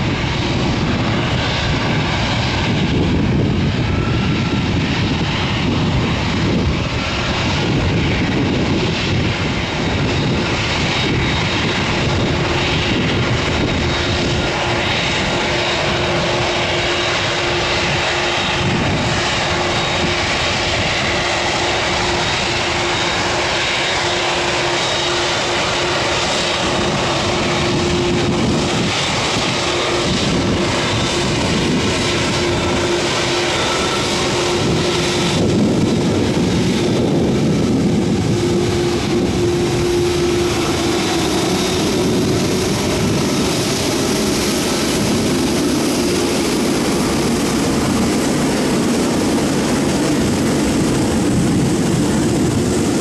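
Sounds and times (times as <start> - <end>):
airliner engines rushing: 0.0 - 53.0.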